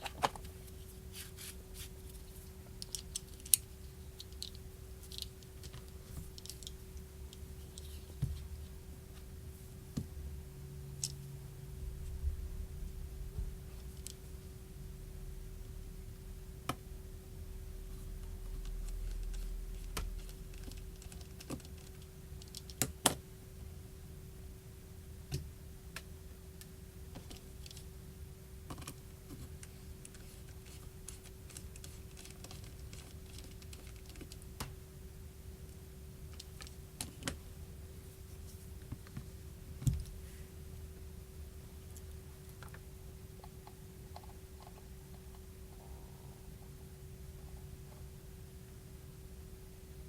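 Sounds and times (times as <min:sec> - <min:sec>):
faint hum: 0:00.0 - 0:50.0.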